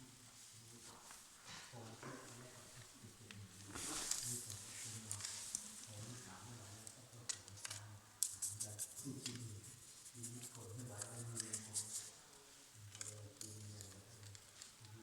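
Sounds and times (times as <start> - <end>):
light scratching and clicking: 1.0 - 15.0.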